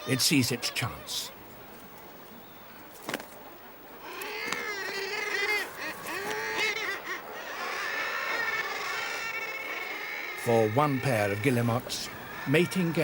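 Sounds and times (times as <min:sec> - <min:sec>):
seabirds honking calls: 0:00.0 - 0:13.0.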